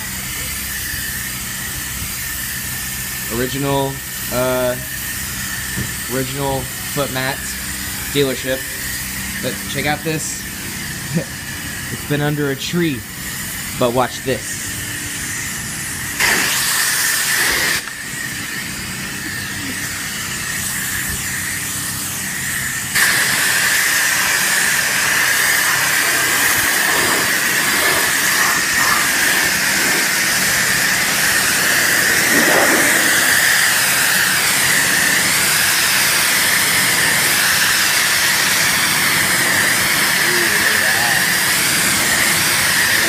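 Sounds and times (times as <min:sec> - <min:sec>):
pressure washer jet hissing: 0:00.0 - 0:43.0.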